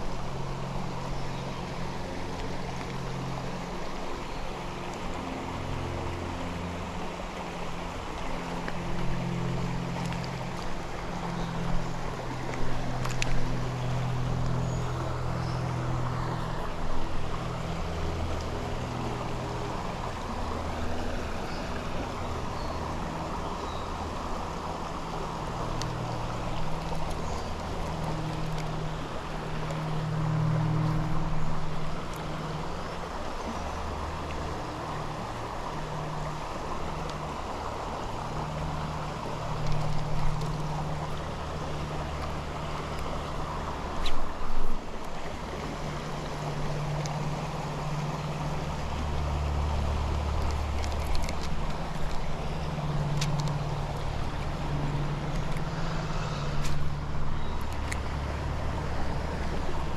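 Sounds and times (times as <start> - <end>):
creek water over rocks: 0.0 - 59.9.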